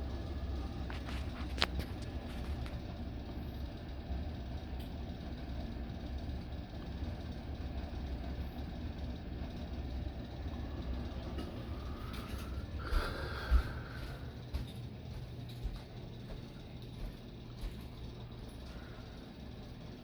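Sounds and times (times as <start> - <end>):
ceiling fans running: 0.0 - 20.0.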